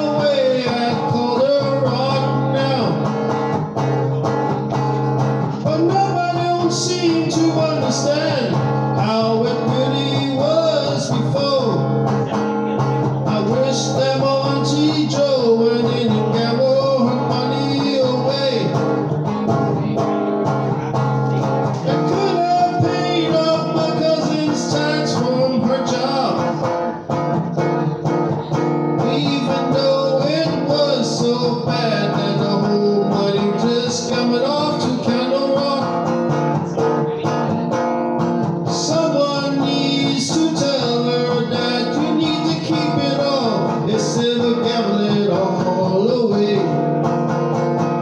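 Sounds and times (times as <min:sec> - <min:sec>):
person singing: 0:00.0 - 0:03.3, 0:04.1 - 0:47.0
country blues guitar: 0:00.0 - 0:48.0.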